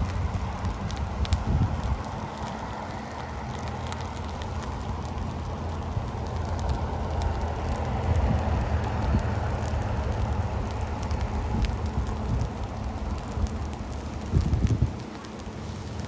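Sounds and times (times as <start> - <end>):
grass fire crackling: 0.0 - 16.0
steady low rumble: 0.0 - 16.0.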